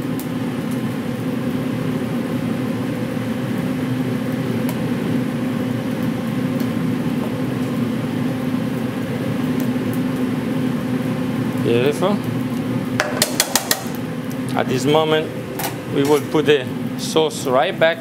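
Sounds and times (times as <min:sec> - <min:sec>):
ventilation fan humming: 0:00.0 - 0:18.0.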